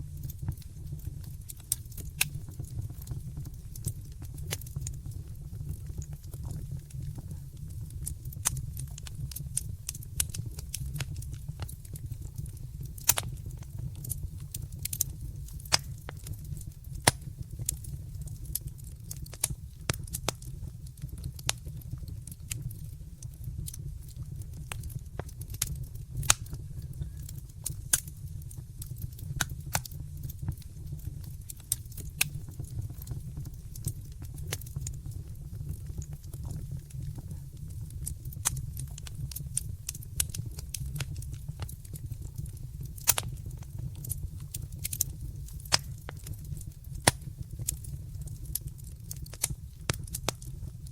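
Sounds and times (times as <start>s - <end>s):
low rumble of flames: 0.0s - 50.9s
wood fire crackling and popping: 0.0s - 50.9s.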